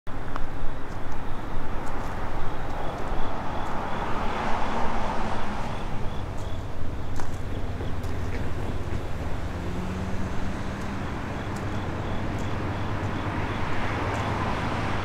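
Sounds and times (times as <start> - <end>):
distant vehicle: 0.7 - 15.0.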